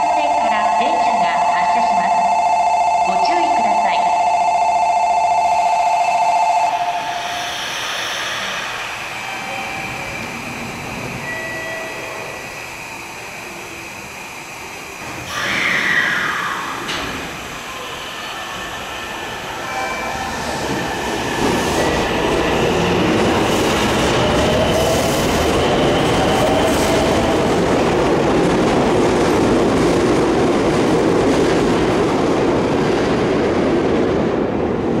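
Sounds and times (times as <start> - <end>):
train wheels on rails: 6.7 - 35.0.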